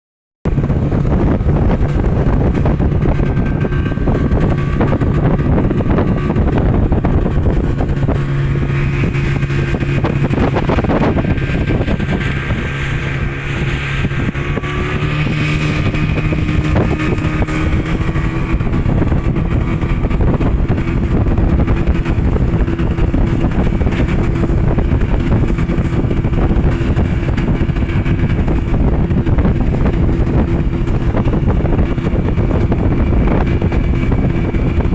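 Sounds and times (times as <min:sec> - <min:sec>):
engine running steadily: 0:00.5 - 0:34.9.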